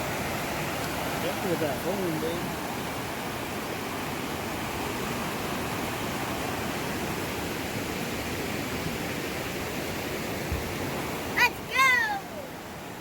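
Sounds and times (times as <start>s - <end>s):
creek water rushing: 0.0s - 13.0s
waterfall: 0.0s - 13.0s.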